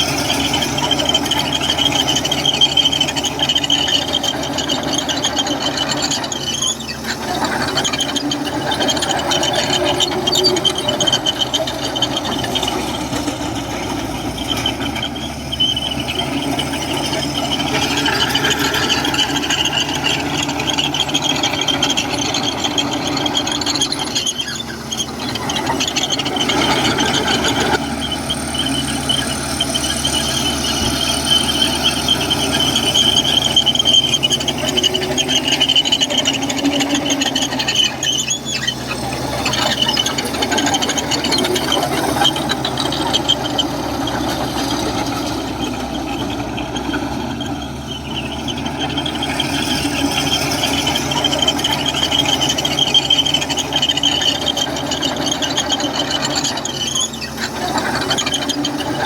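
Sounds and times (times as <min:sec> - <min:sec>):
bulldozer diesel engine running: 0:00.0 - 0:59.0
steel tracks squealing: 0:00.0 - 0:59.0.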